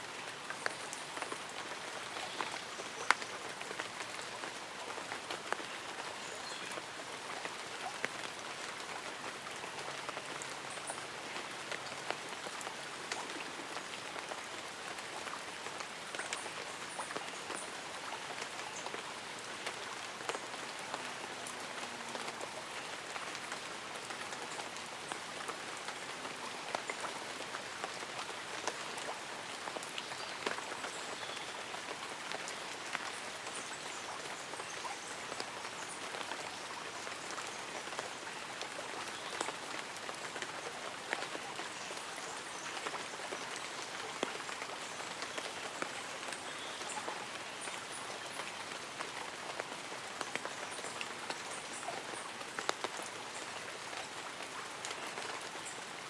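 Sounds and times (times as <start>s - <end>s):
rain pattering on leaves and umbrella: 0.0s - 56.0s.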